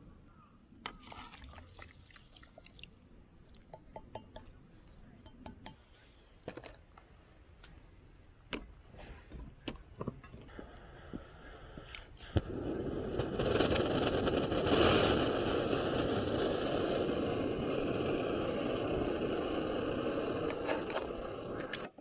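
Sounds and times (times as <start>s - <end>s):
campfire crackling: 0.9s - 22.0s.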